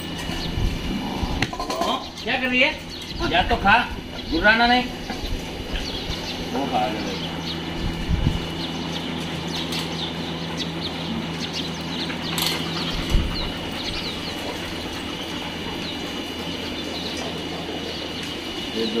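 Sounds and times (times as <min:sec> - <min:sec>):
faint birds chirping: 0:00.0 - 0:19.0
steady low hum: 0:00.0 - 0:19.0.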